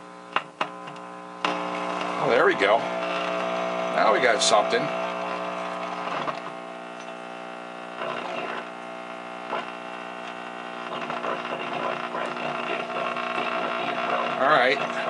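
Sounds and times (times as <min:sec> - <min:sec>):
faint radio station: 0:00.0 - 0:15.0
radio power-supply hum: 0:00.0 - 0:15.0.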